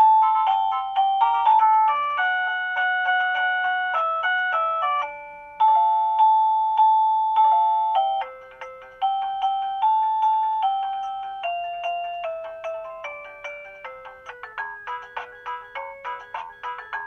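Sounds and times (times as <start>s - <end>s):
doorbell electronic chime melody: 0.0s - 17.0s.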